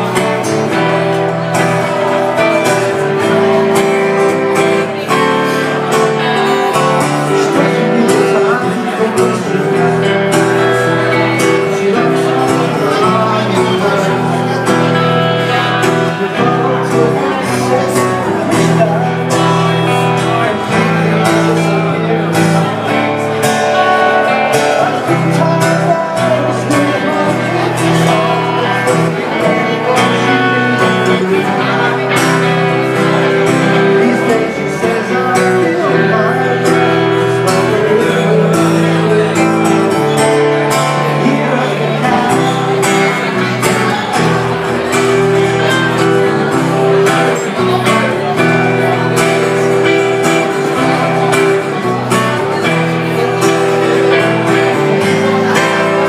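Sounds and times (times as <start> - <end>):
acoustic guitar: 0.0 - 56.0
electric guitar: 0.0 - 56.0.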